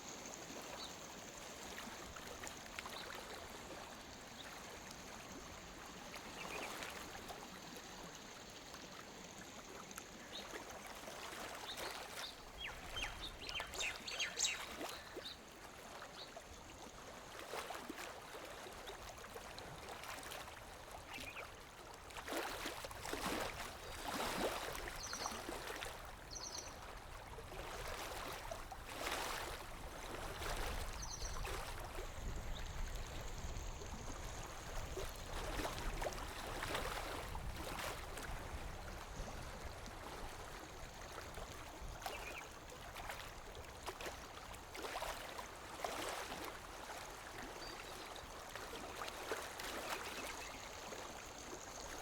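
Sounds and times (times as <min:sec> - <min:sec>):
lake water lapping shore: 0:00.0 - 0:52.0
small water splashes: 0:00.3 - 0:52.0.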